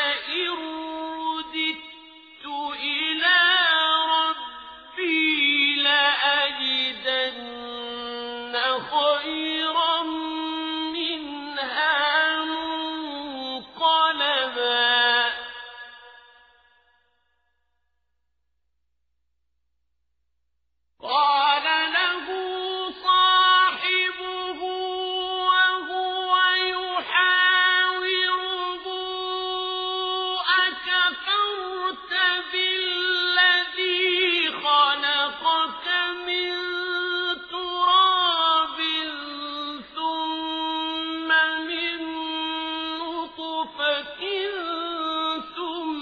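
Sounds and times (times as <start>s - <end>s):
man reciting melodically: 0.0s - 16.2s, 21.0s - 46.0s.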